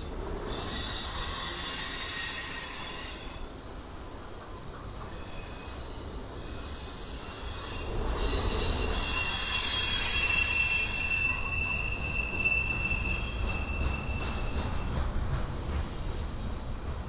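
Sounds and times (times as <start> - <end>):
train wheel squeal: 0.0 - 3.6, 4.5 - 16.7
freight train cars rumbling: 0.0 - 17.0.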